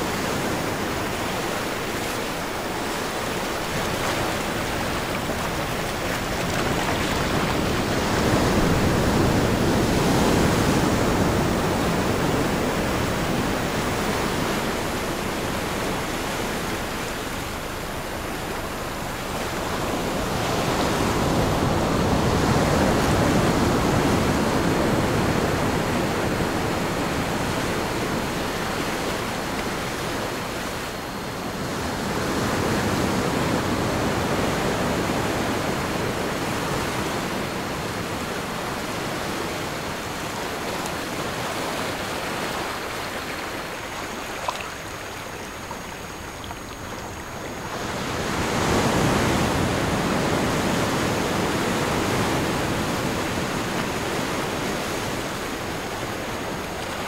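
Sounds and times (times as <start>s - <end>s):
ocean waves washing in: 0.0s - 57.0s.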